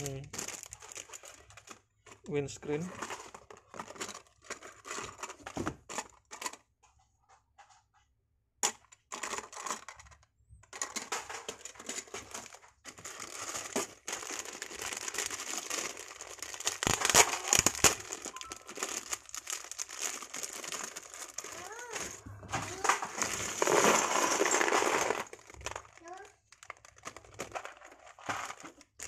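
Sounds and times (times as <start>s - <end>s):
plastic bag crinkling: 0.0s - 6.7s, 9.1s - 29.0s.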